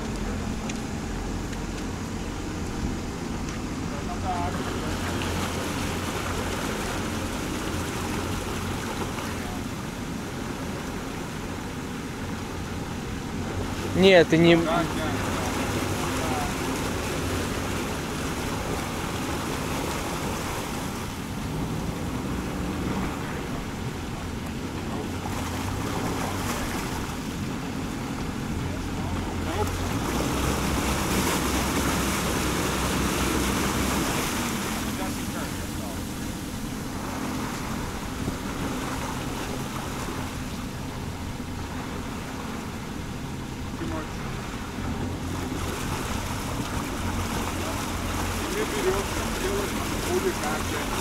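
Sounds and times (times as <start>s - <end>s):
motorboat engine running: 0.0s - 51.0s
water churning and splashing: 0.0s - 51.0s.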